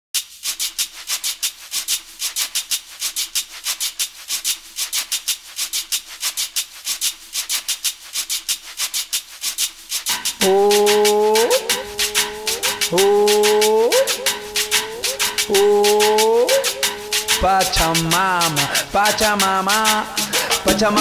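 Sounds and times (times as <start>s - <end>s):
hand shaker rhythm: 0.2s - 21.0s.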